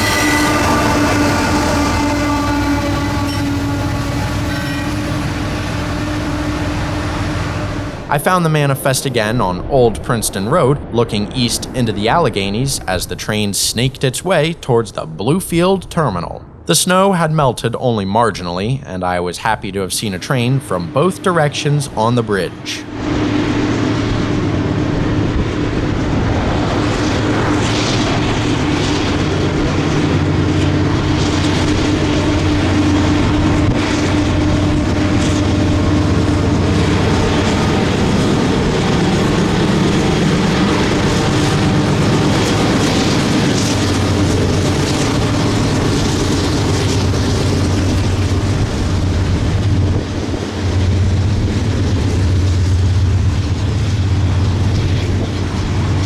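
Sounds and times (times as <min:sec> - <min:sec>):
train wheels on rails: 0:00.0 - 0:09.2, 0:19.4 - 0:56.0
locomotive engine drone: 0:00.0 - 0:56.0.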